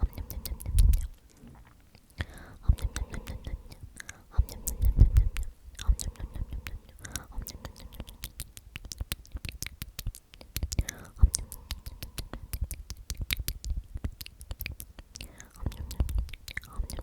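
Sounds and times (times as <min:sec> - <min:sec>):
person whispering: 0:00.0 - 0:17.0
wet mouth clicks and smacks: 0:00.0 - 0:17.0.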